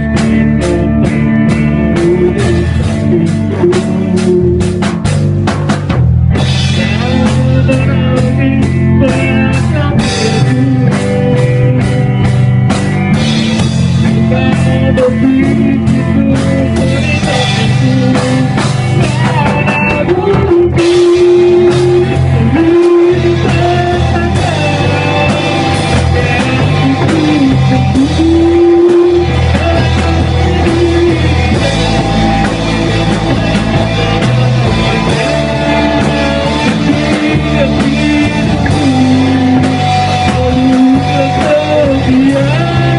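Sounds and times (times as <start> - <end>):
man singing: 0.0 - 5.2, 6.4 - 42.9
drum kit: 0.0 - 42.9
electric guitar: 0.0 - 42.9.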